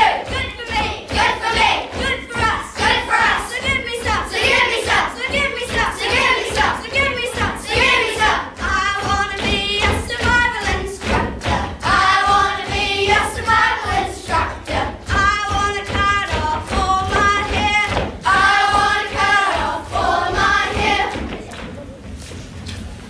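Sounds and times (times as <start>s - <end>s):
song with singing over a beat: 0.0s - 21.5s.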